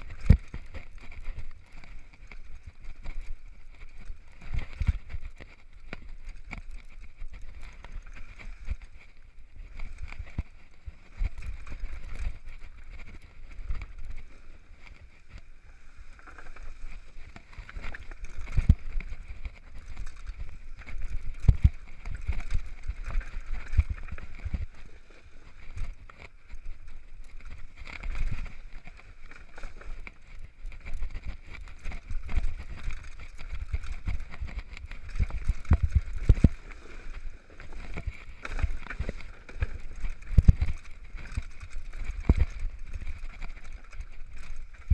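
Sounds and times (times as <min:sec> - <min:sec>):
bike knocks and rattles: 0:00.1 - 0:15.4, 0:16.1 - 0:24.9, 0:25.5 - 0:36.8, 0:37.6 - 0:44.9.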